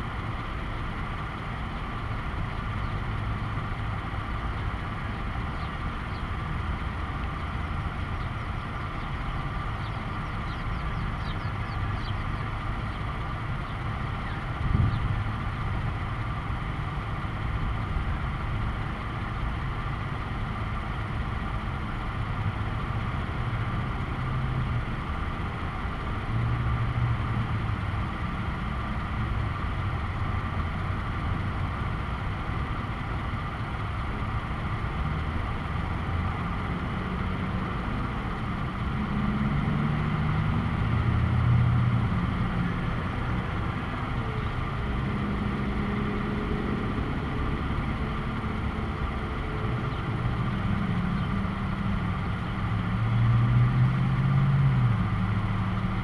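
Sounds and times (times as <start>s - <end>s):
road traffic rumble: 0.0s - 56.0s
vehicles passing: 0.0s - 56.0s.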